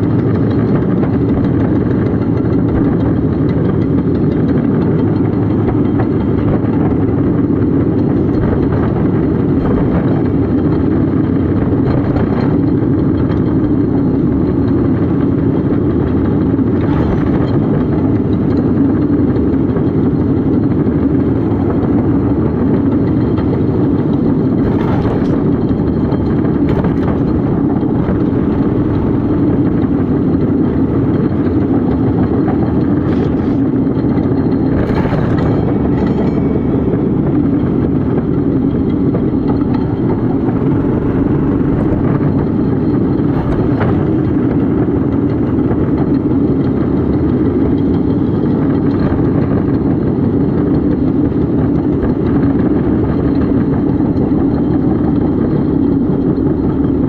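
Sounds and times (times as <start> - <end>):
railcart engine running: 0.0 - 57.0
sharp knocks on rails: 0.0 - 57.0.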